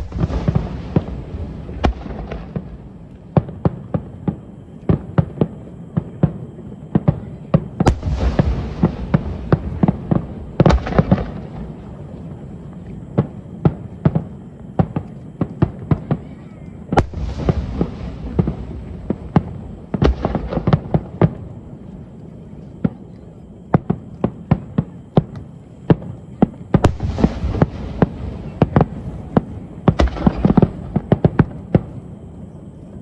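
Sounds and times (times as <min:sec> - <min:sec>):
low rumble of booms: 0:00.0 - 0:16.2, 0:16.8 - 0:32.8
crackling hiss: 0:00.0 - 0:33.0
fireworks bangs and crackles: 0:00.0 - 0:33.0.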